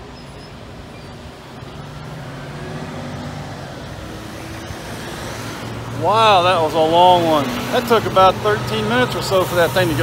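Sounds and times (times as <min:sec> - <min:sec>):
road traffic moving off: 0:00.0 - 0:10.0.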